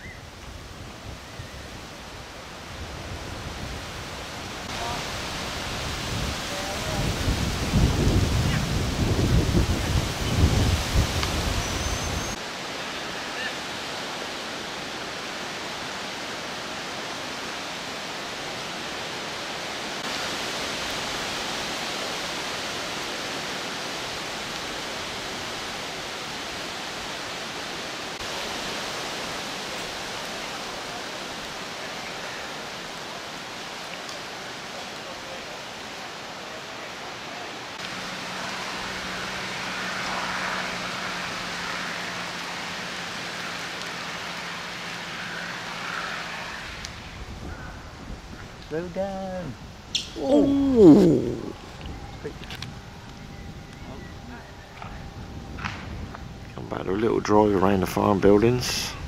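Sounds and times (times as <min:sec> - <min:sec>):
rushing outdoor background noise: 0:00.0 - 0:59.0.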